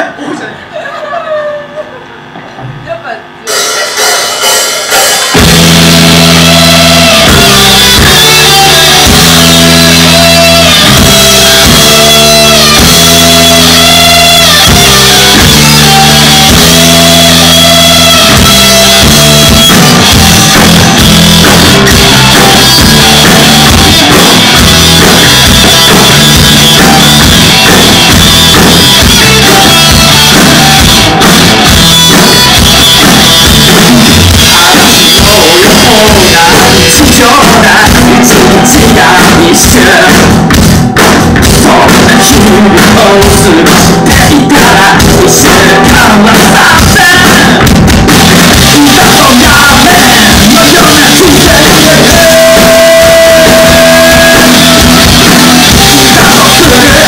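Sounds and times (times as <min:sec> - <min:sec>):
rock band playing loud: 0:03.3 - 0:57.0.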